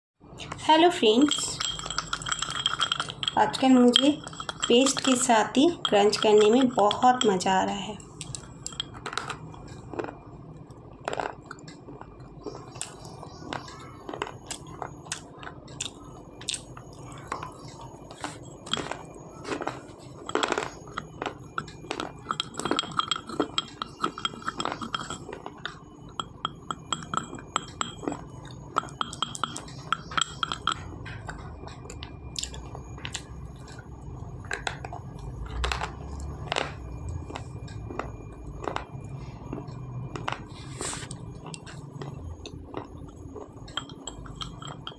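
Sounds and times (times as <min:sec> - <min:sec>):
crunchy bar being chewed: 0:08.2 - 0:33.8, 0:34.5 - 0:44.9.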